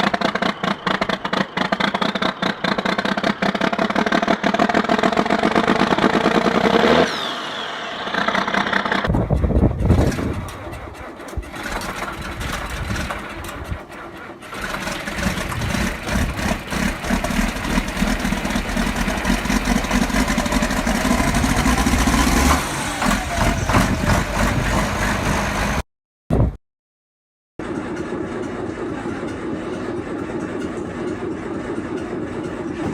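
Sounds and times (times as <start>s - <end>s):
diesel tractor engine starting: 0.0s - 25.8s, 27.6s - 32.9s.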